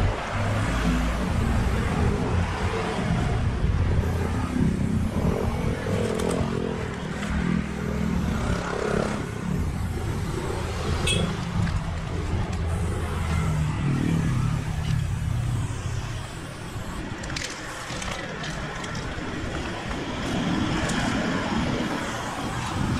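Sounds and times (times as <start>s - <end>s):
vehicles passing on road: 0.0s - 22.9s
spray-paint can hissing: 3.8s - 22.9s.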